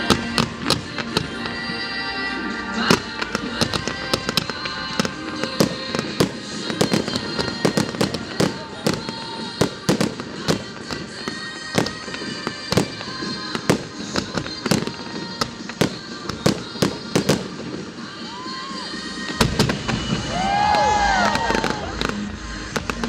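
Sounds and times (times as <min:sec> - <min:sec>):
fireworks bangs and crackles: 0:00.0 - 0:01.8, 0:02.8 - 0:23.0.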